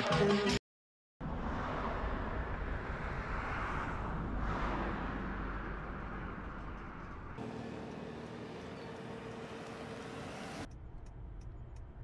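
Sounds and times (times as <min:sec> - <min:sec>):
road and engine noise in car: 0:01.2 - 0:12.0.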